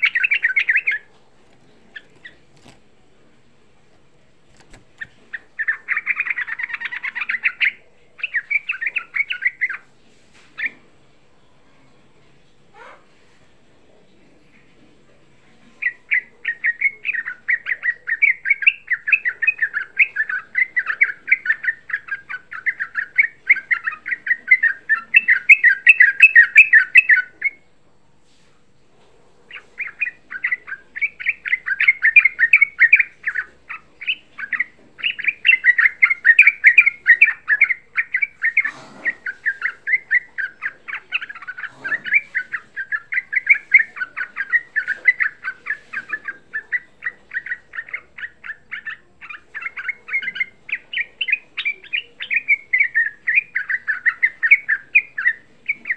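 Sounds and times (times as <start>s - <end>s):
bird chattering song: 0.0s - 2.8s, 4.5s - 9.9s, 15.8s - 27.6s, 29.5s - 55.9s.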